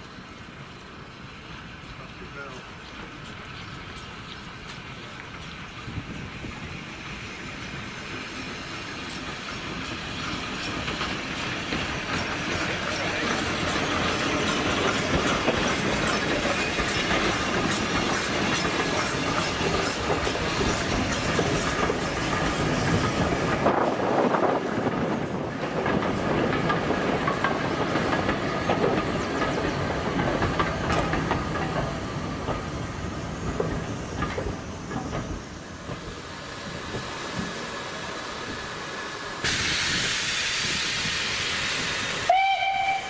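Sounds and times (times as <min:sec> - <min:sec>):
train wheels clicking over rail joints: 0:00.5 - 0:42.9.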